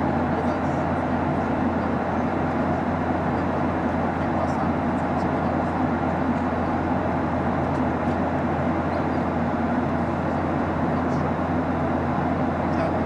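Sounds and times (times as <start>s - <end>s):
low hum of jet engines: 0.0s - 13.0s.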